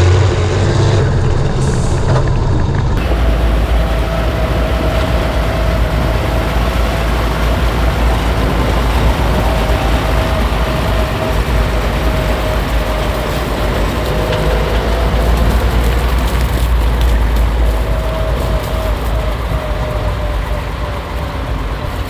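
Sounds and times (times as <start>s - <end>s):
heavy vehicle engine rumbling: 0.0s - 22.0s
faint steady whine: 3.0s - 22.0s.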